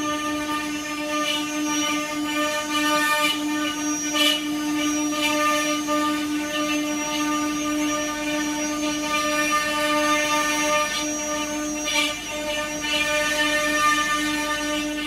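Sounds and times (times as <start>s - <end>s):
wood carving machine whining: 0.0s - 15.0s.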